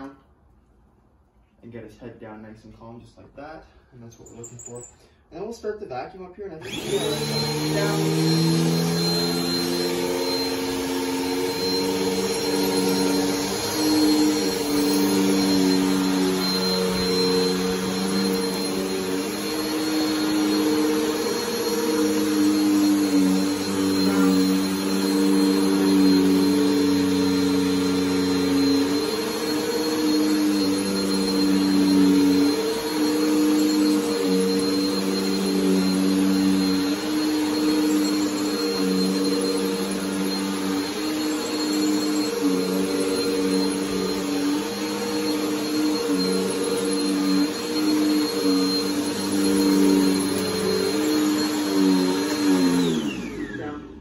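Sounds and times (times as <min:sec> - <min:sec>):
vacuum cleaner on carpet: 0:06.6 - 0:54.0.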